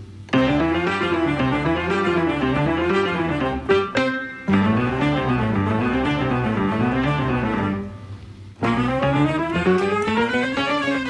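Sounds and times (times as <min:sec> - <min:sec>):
instrumental background music: 0:00.3 - 0:11.0.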